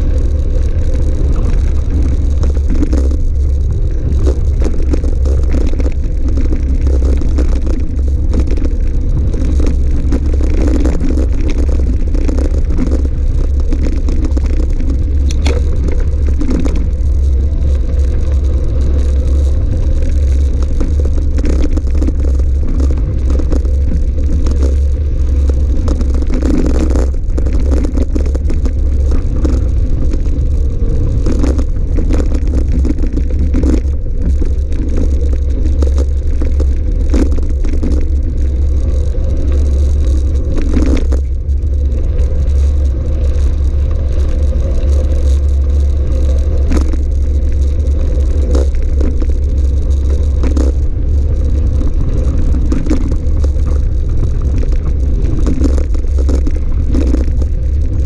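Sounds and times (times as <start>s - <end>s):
bike rattling and knocking: 0.0s - 58.0s
wind and tyre rumble: 0.0s - 58.0s.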